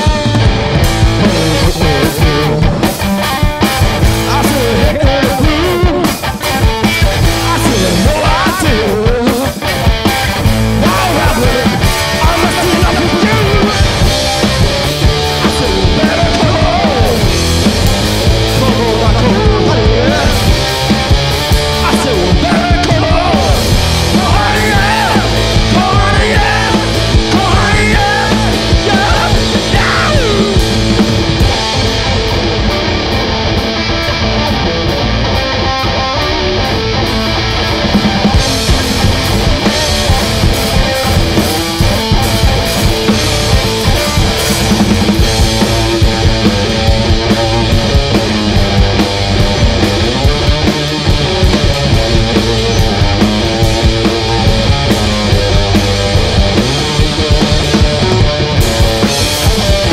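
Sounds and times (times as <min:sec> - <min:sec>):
live rock band playing: 0:00.0 - 0:59.9
loud electric guitar: 0:00.0 - 0:59.9.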